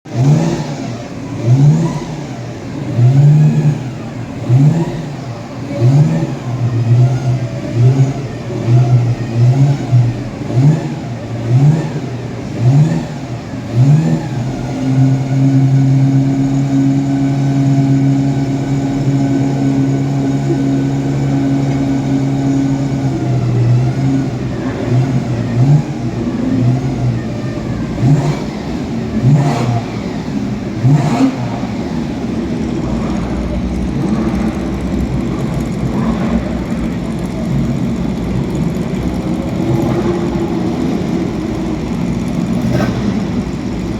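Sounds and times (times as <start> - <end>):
racing car engine revving: 0.1 - 43.9.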